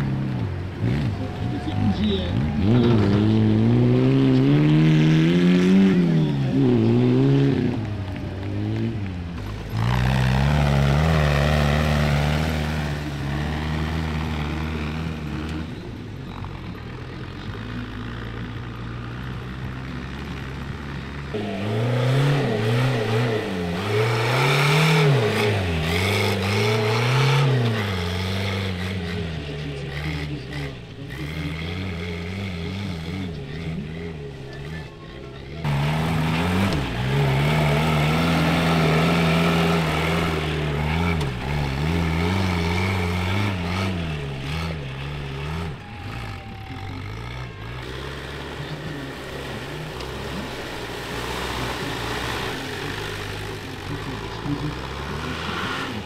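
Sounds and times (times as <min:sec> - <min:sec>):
tractor engines revving: 0:00.0 - 0:56.0.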